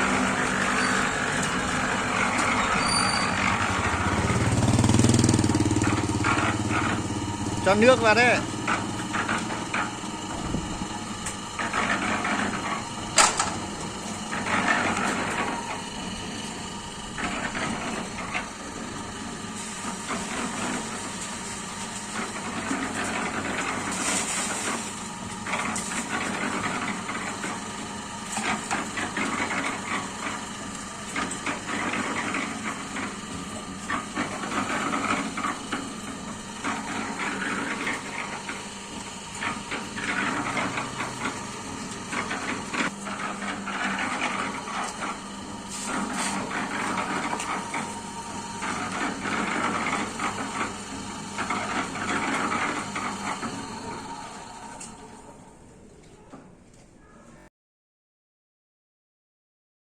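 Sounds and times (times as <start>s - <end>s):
concrete mixer churning: 0.0s - 55.4s.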